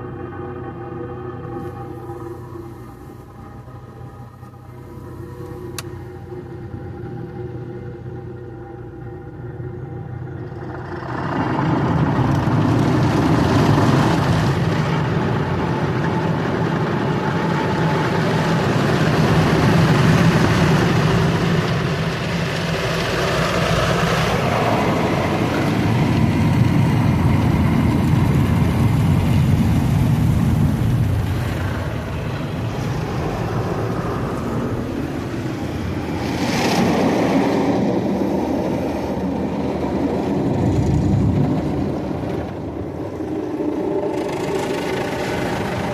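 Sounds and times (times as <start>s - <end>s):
mechanical rumble: 0.0s - 45.9s.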